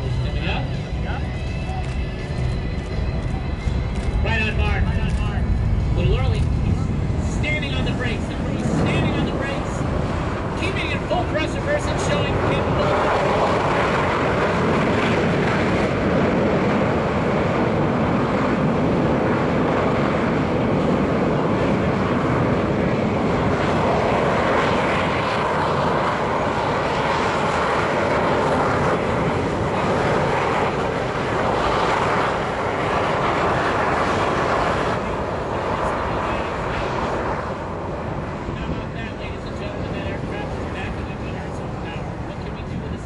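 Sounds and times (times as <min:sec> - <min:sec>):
loud jet engine roar: 0:00.0 - 0:43.0.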